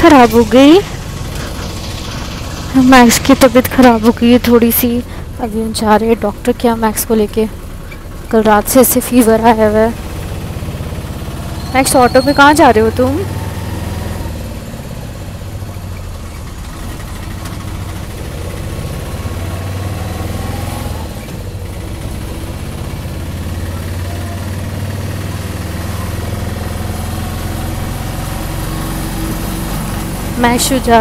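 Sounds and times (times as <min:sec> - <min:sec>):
auto-rickshaw engine running: 0:00.0 - 0:31.0
road noise: 0:00.0 - 0:31.0.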